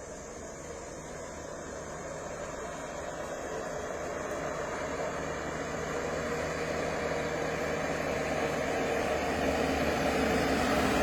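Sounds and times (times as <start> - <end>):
road noise: 0.0 - 11.0
vehicle engine humming: 0.0 - 11.0.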